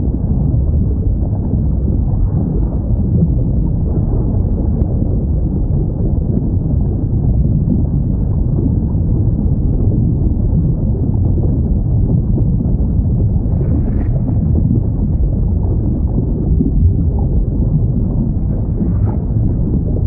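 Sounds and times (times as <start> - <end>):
low underwater rumble: 0.0 - 20.0.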